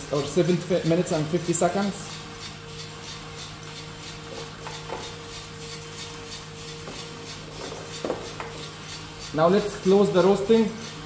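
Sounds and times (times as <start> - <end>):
coffee roaster motor hum: 0.0 - 11.0.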